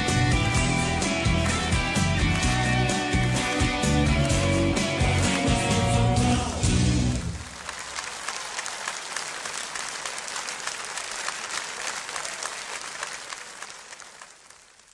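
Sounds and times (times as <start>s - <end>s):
audience applauding: 0.0s - 6.4s, 7.0s - 14.9s.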